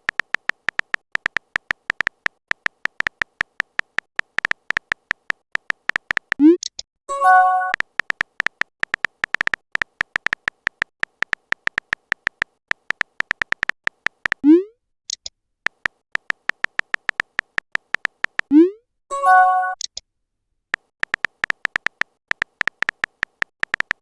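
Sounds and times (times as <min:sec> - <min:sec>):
electronic keyboard clicks: 0:00.0 - 0:18.6, 0:20.7 - 0:24.0.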